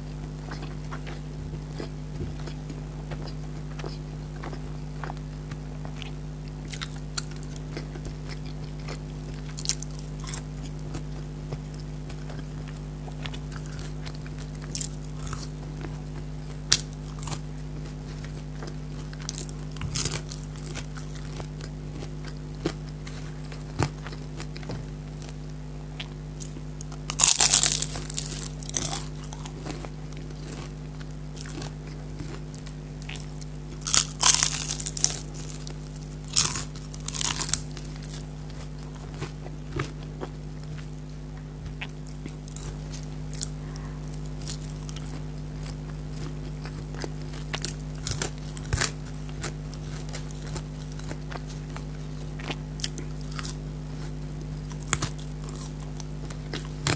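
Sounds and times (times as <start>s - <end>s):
person chewing: 0.1s - 56.9s
crunching: 0.5s - 25.4s, 26.0s - 40.8s, 41.7s - 56.9s.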